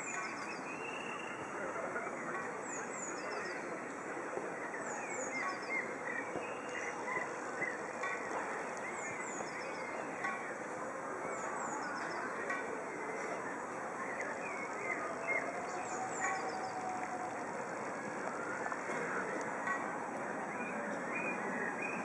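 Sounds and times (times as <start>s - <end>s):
background murmur: 0.0s - 22.0s.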